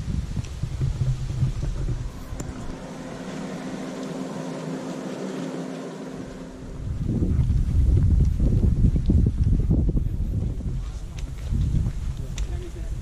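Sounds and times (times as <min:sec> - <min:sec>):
wind rumbling on microphone: 0:00.0 - 0:13.0
steady engine hum: 0:00.2 - 0:11.2.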